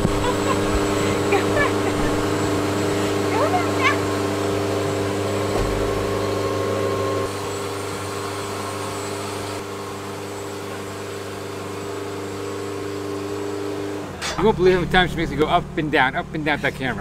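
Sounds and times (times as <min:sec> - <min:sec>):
lift motor humming: 0:00.0 - 0:17.0.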